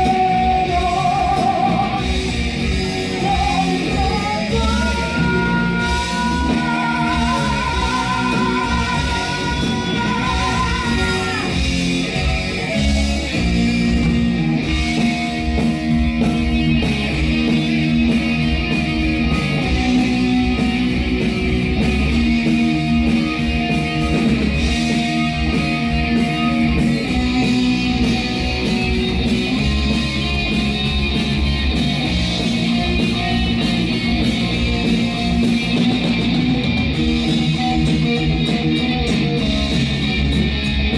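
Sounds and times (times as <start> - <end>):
heavy metal band playing live: 0.0 - 40.9.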